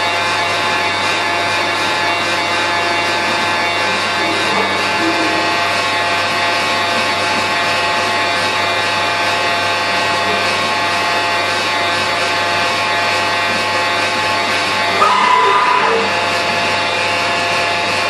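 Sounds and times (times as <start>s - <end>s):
air and motor noise: 0.0s - 18.0s
machine hum and whine: 0.0s - 18.0s.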